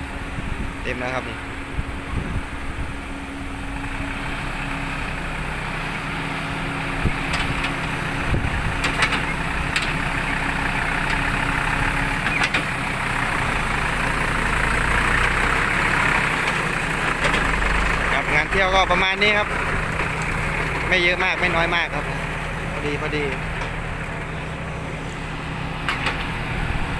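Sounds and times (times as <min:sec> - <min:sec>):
heavy diesel engines running: 0:00.0 - 0:26.9.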